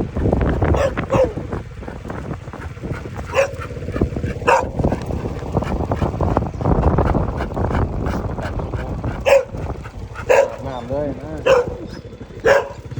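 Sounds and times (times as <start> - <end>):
steady low rumble: 0.0 - 12.9
dog barking: 0.4 - 6.4, 8.0 - 12.9.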